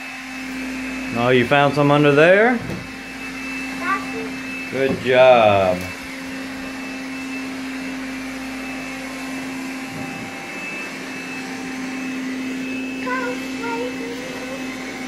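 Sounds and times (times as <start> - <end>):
stick vacuum on carpet: 0.0 - 15.0.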